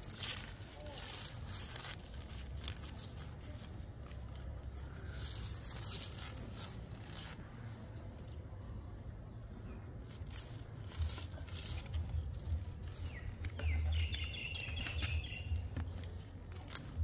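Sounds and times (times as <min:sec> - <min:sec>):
small bird chirping: 0:02.8 - 0:17.0.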